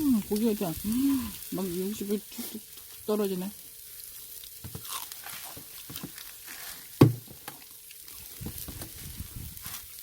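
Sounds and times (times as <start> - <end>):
fat crackling on coals: 0.0 - 10.0
meat sizzling on a grill: 0.0 - 10.0.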